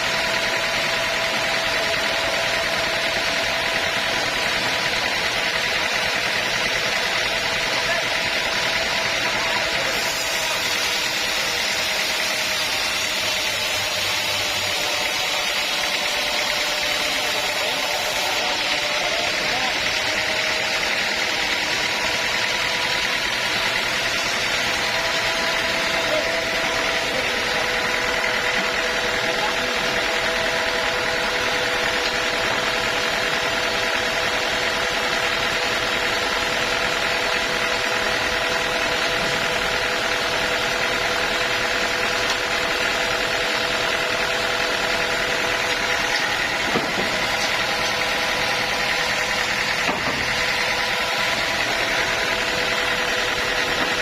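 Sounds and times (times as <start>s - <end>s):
machinery drone: 0.0s - 54.0s
steady machine whine: 0.0s - 54.0s.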